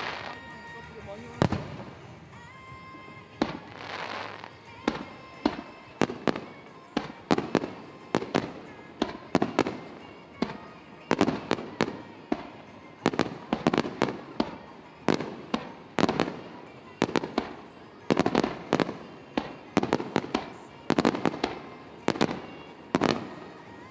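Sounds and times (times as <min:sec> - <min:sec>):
firework shells bursting: 0:00.0 - 0:23.9.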